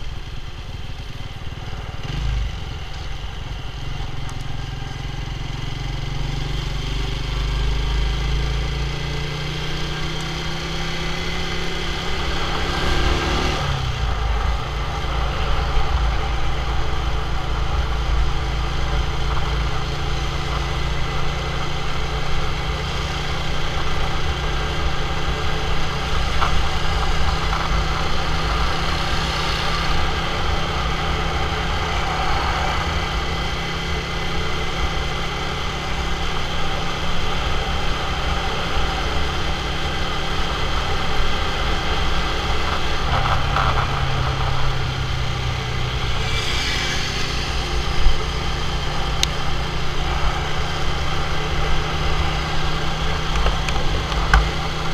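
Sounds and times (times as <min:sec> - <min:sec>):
motorcycle engine accelerating: 0:00.0 - 0:54.9
road and wind noise: 0:00.0 - 0:54.9.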